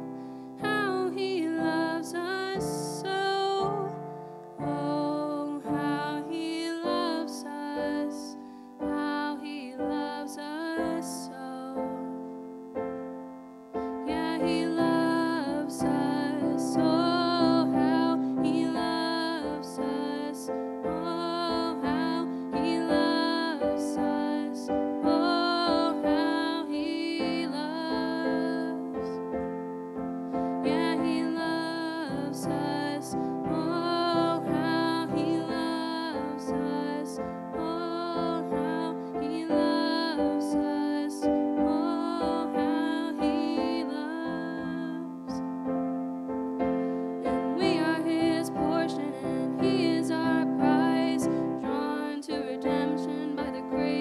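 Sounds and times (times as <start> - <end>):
slow piano chords: 0.0 - 54.0.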